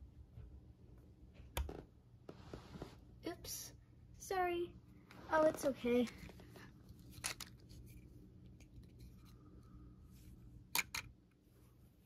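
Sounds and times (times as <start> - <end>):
faint low room hum: 0.0 - 12.0.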